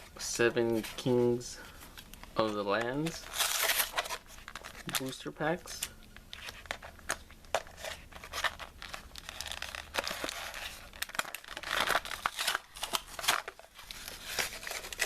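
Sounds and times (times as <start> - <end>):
plastic packaging crinkling and tearing: 2.0 - 15.0.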